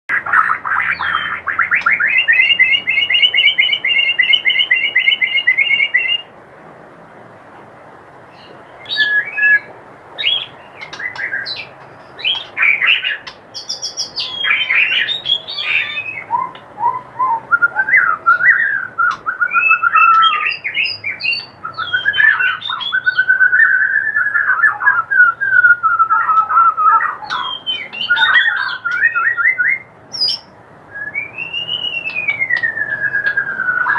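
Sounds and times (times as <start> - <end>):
bird whistles and trills: 0.1 - 6.3, 8.4 - 33.9.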